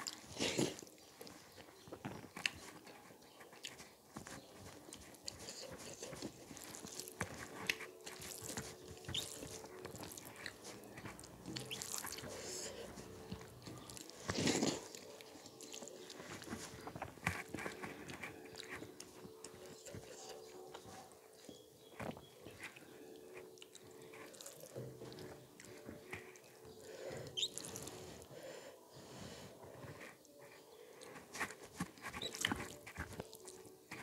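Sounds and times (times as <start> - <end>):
chewing food: 0.0 - 28.3, 29.7 - 34.0.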